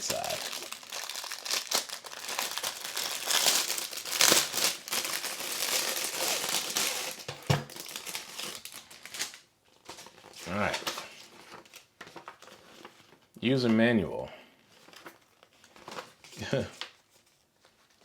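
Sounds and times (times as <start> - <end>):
packaging crinkling and rustling: 0.0 - 13.3, 14.6 - 18.0.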